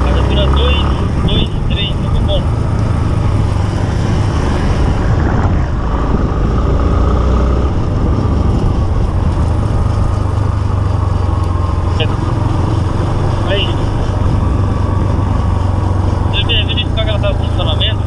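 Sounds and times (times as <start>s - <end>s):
wind rushing: 0.0s - 17.6s
motorcycle engine running: 0.0s - 18.0s.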